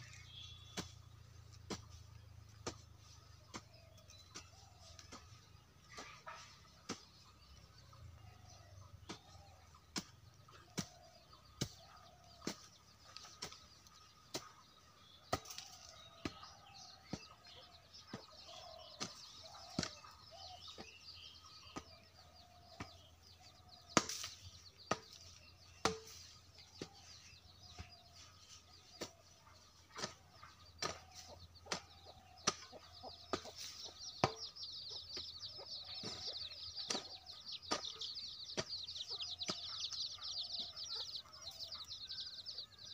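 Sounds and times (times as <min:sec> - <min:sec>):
hoe chopping dry soil: 0:00.0 - 0:42.9
small birds chirping: 0:00.0 - 0:42.9
chickens clucking: 0:00.8 - 0:42.9.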